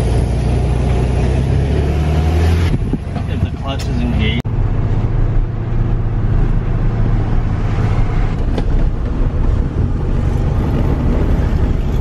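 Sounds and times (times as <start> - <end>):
car engine drone: 0.0 - 12.0
road and wind noise: 0.0 - 12.0.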